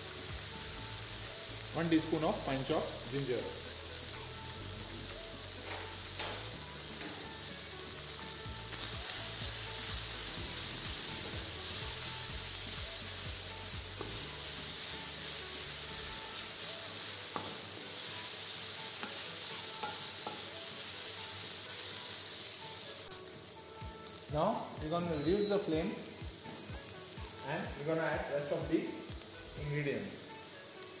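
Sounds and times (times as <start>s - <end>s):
chicken sizzling in frying pan: 0.0s - 31.0s.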